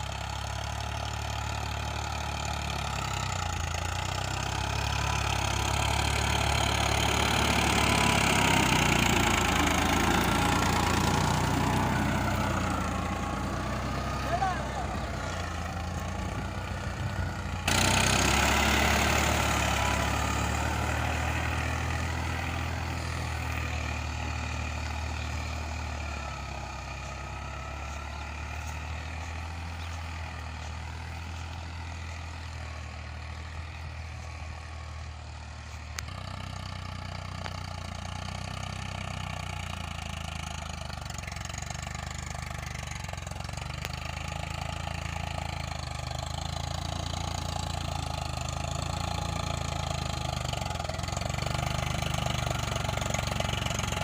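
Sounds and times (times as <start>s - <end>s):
tractor diesel engine working: 0.0s - 54.0s.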